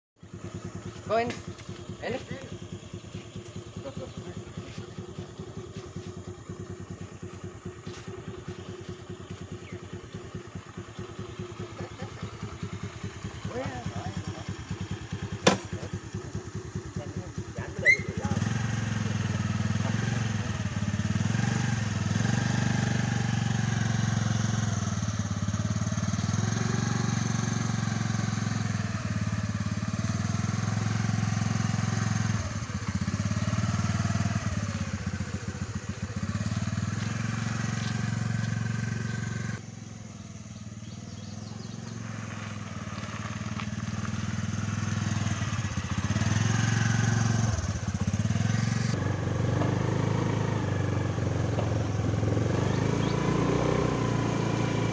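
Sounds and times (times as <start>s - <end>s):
scooter engine revving: 0.2s - 54.9s.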